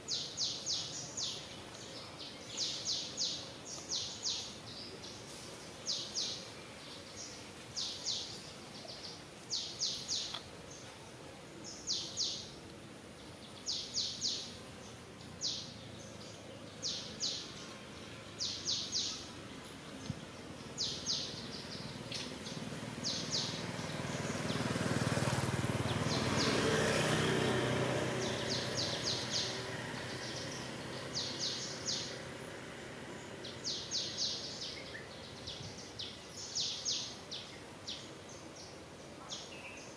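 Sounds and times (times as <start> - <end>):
bird chirping: 0.0 - 11.0, 11.6 - 12.6, 13.2 - 39.9.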